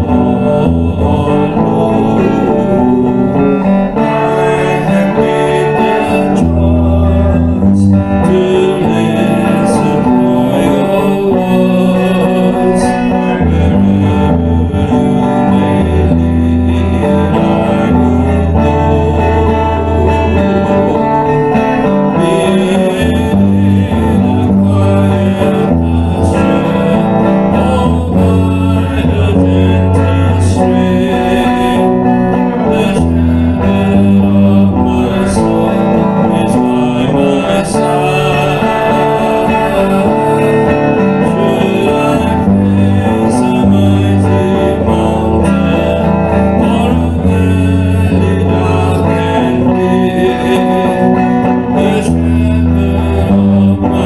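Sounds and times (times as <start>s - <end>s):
electric guitar playing slow song: 0.0s - 54.0s.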